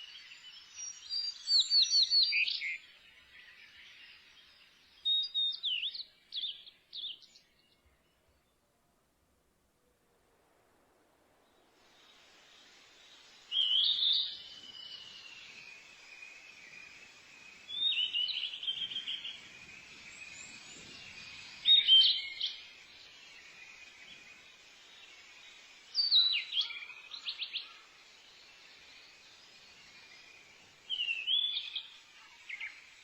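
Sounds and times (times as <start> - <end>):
high background hiss: 0.0 - 33.0
songbird chirping: 0.0 - 33.0.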